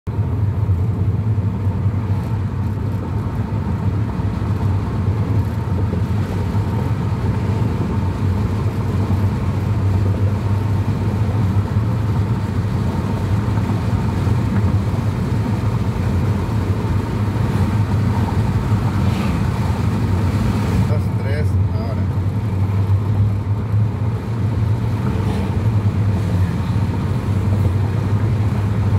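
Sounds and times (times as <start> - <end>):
car driving on highway: 0.1 - 28.9.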